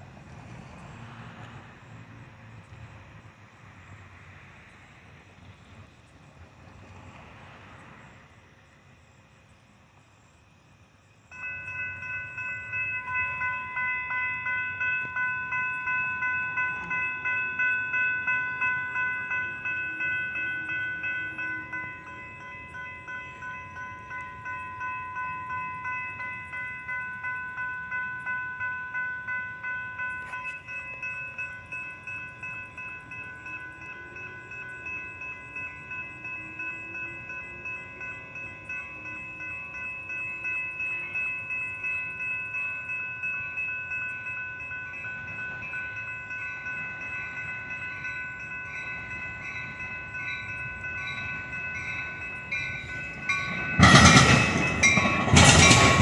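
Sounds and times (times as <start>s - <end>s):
railroad crossing bell ringing: 0.0s - 9.6s, 10.3s - 56.0s
train passing with wheel noise: 0.0s - 56.0s.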